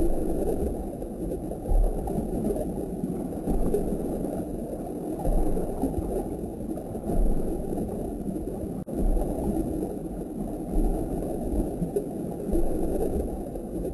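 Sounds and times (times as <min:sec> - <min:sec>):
water gurgling in aquarium: 0:00.0 - 0:13.9.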